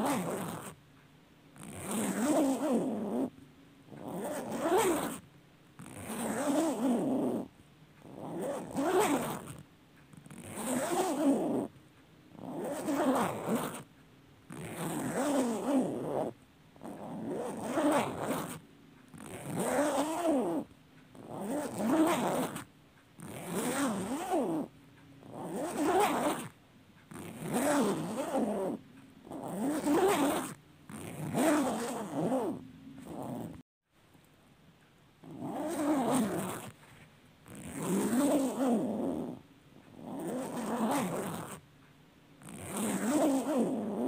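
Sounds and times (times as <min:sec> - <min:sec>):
clothing zipper being pulled: 0:00.0 - 0:00.8, 0:01.6 - 0:03.3, 0:03.9 - 0:05.2, 0:05.8 - 0:11.7, 0:12.3 - 0:13.9, 0:14.5 - 0:33.6, 0:35.2 - 0:41.6, 0:42.4 - 0:44.0.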